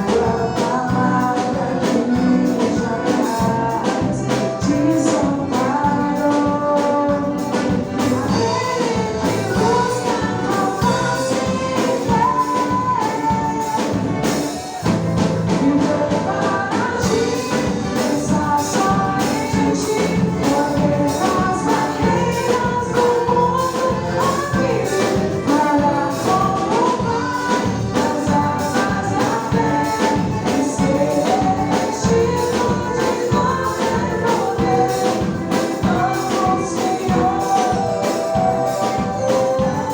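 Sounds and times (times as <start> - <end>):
band playing a song: 0.0 - 39.9
person singing: 0.0 - 39.9.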